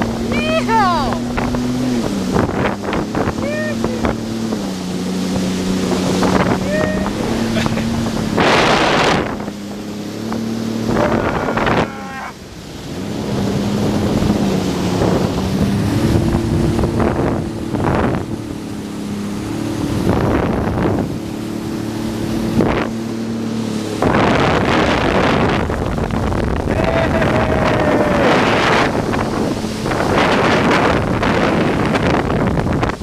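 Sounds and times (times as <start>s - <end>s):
jet ski engine running: 0.0s - 33.0s
spray and wind rushes: 0.0s - 33.0s.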